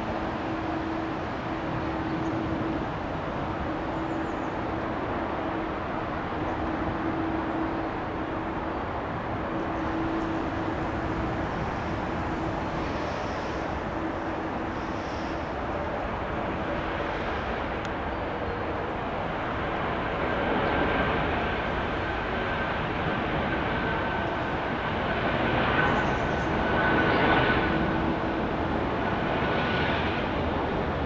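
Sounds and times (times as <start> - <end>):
airliner jet noise rushing: 0.0 - 31.0.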